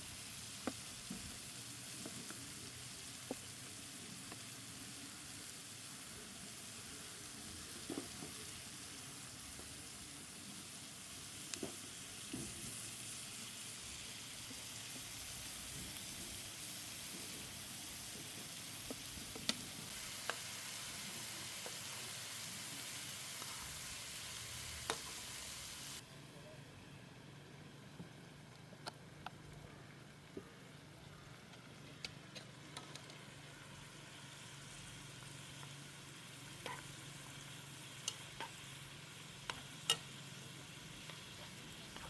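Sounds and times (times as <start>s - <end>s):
food sizzling in a pan: 0.0s - 26.0s, 32.2s - 42.0s.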